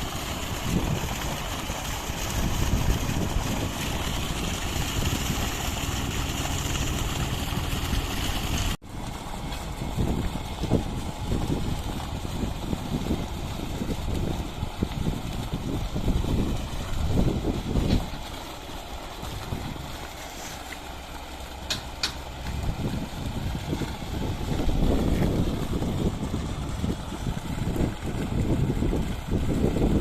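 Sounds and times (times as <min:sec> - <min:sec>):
wind buffeting microphone: 0:00.0 - 0:18.5, 0:21.7 - 0:30.0.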